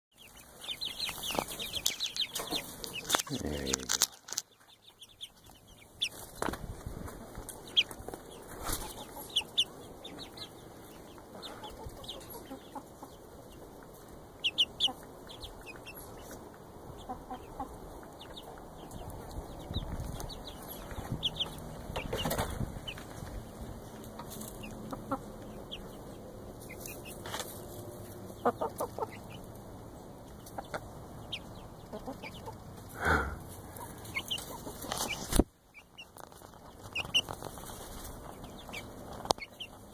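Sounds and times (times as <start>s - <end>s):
hens peeping: 0.1s - 39.9s
hens clucking: 0.2s - 39.9s.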